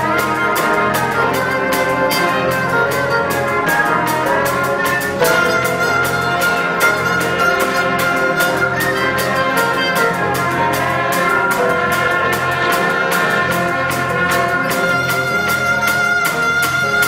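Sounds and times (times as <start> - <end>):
concert band playing: 0.0 - 17.0
percussion beat: 0.0 - 17.0.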